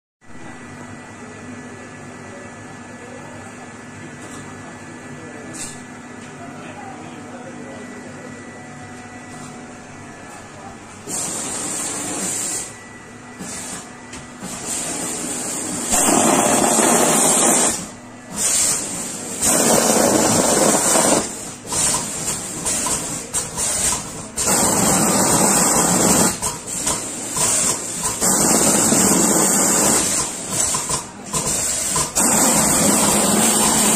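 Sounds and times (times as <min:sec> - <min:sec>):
machine running noise: 0:03.5 - 0:33.9.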